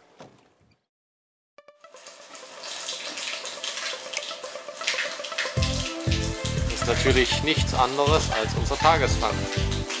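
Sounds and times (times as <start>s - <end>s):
water running from a tap: 1.8s - 10.0s.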